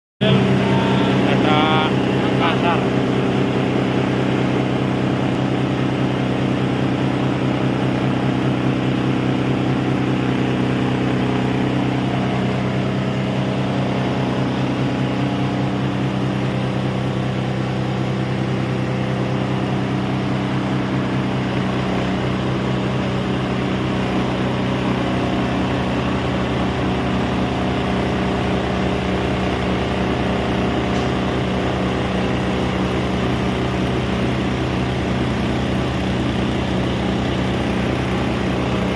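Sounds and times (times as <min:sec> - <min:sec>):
grinding mill humming: 0:00.2 - 0:38.9.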